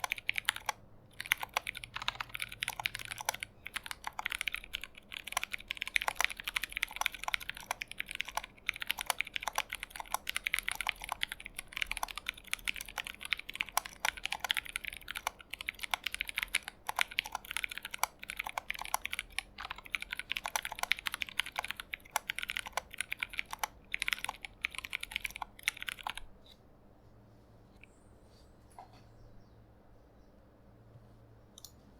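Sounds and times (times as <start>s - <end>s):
mechanical keyboard typing: 0.0s - 26.6s.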